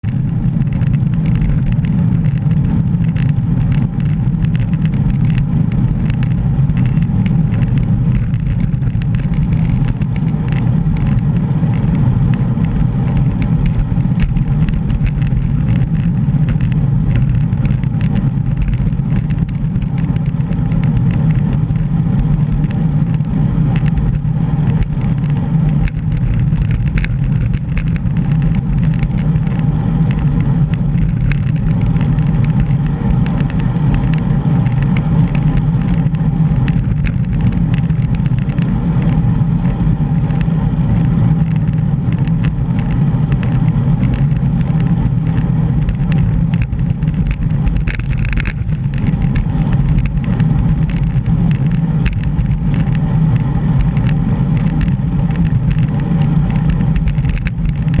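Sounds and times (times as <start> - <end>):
wind and road rumble: 0.0 - 58.0.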